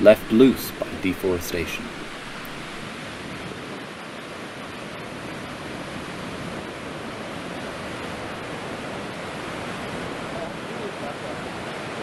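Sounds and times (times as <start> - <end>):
river rushing over rapids: 0.0 - 12.0.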